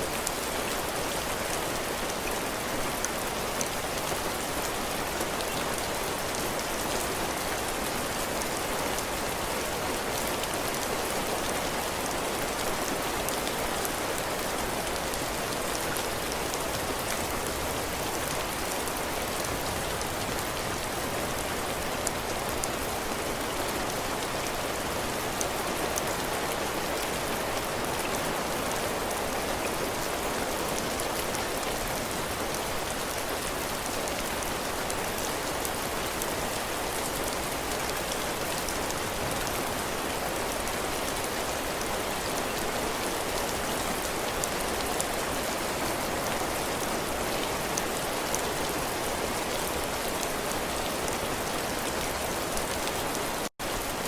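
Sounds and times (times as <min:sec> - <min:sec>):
heavy rain pattering on a porch: 0:00.0 - 0:54.0.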